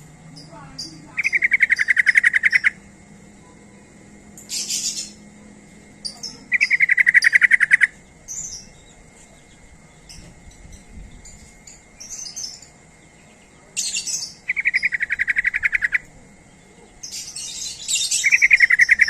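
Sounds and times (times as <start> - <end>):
bird chattering trills: 0.0 - 19.0.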